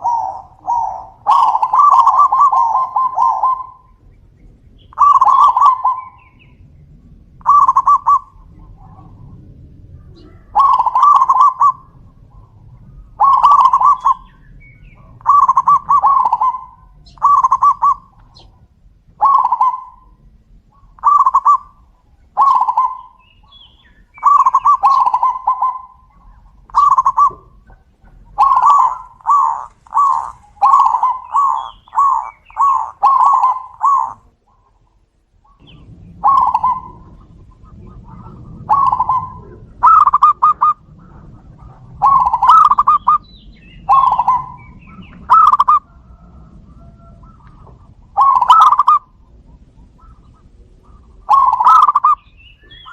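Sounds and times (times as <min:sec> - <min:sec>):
doves cooing: 0:00.0 - 0:52.9.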